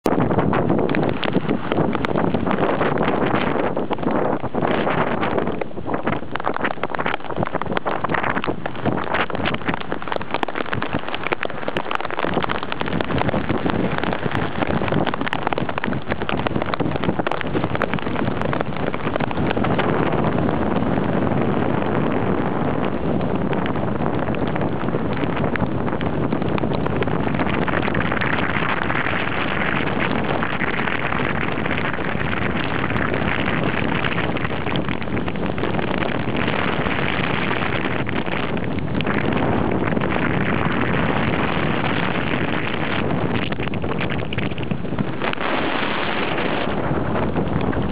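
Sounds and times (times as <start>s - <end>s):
storm surf breaking on seawall: 0.0s - 47.9s
wind on microphone: 0.0s - 47.9s.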